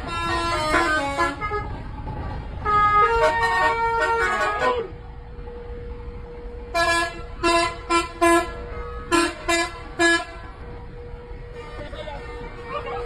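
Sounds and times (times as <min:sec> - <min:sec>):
bus horn blasts: 0:00.0 - 0:02.0, 0:02.6 - 0:05.0, 0:06.6 - 0:13.0.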